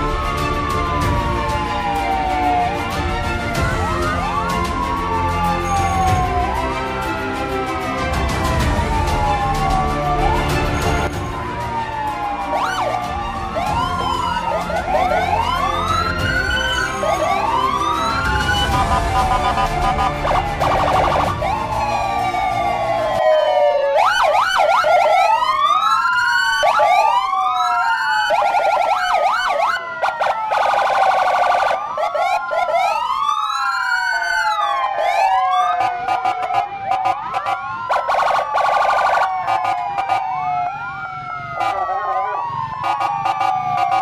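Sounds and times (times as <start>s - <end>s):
police sirens wailing: 0.0s - 44.0s.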